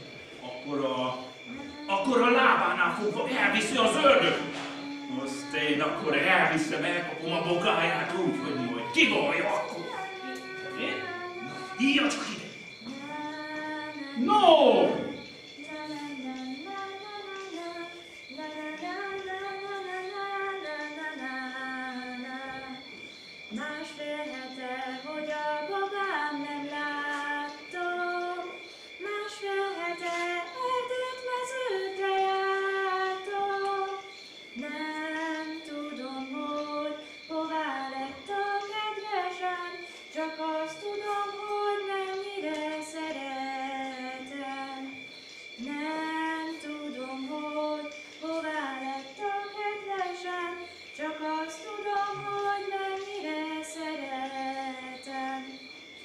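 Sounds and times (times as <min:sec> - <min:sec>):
faint high-pitched whine: 0:00.0 - 0:56.0
woman singing unaccompanied: 0:01.4 - 0:55.7.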